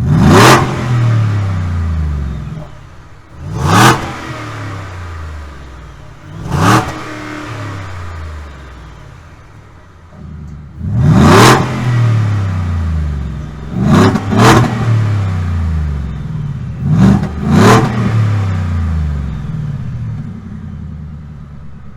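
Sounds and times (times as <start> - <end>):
engine exhaust revving: 0.0 - 21.9.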